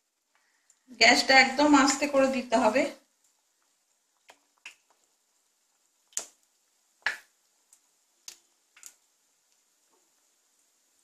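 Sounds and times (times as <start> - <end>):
hot oil popping and spitting: 0.0 - 11.0.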